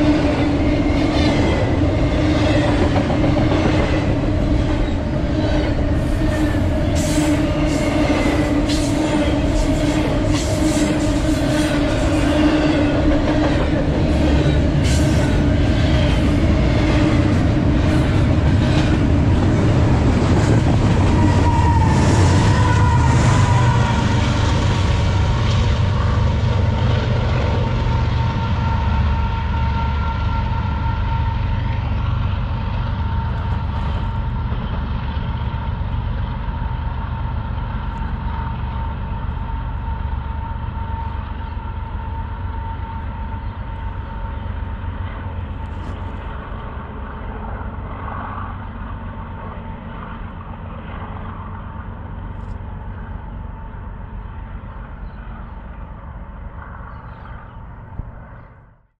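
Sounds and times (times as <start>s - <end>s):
locomotive rumble: 0.0s - 58.7s.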